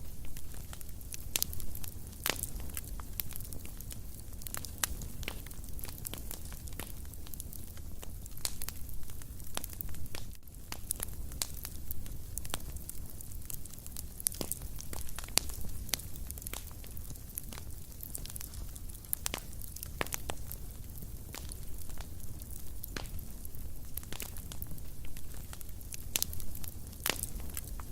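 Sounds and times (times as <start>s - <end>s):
low rumble of flames: 0.0s - 27.9s
wood fire crackling and popping: 0.0s - 27.9s.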